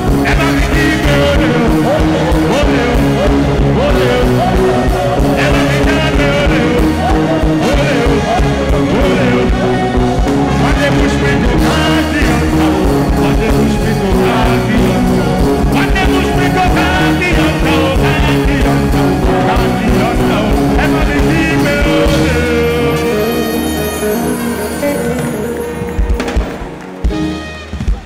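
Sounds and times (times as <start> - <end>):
live band music: 0.0 - 28.0
person singing: 0.0 - 28.0.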